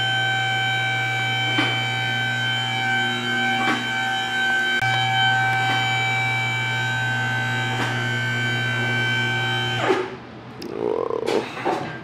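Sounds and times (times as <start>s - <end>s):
droning background chords: 0.0s - 10.0s.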